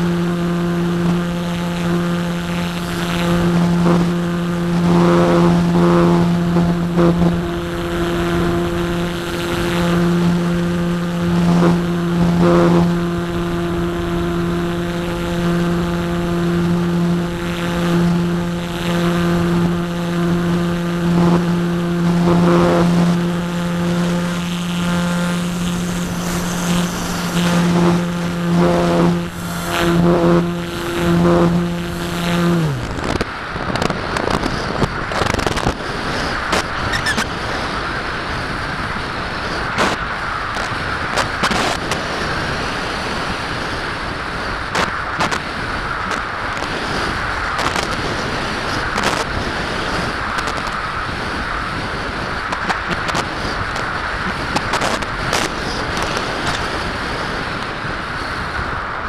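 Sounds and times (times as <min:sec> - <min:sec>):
electric motor and propeller hum: 0:00.0 - 0:59.0.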